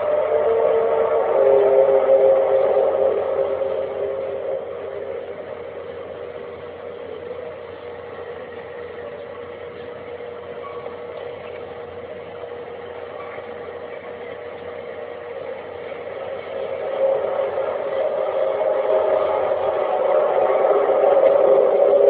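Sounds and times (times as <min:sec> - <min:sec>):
hiss: 0:00.0 - 0:22.0
steady humming drone: 0:00.0 - 0:22.0.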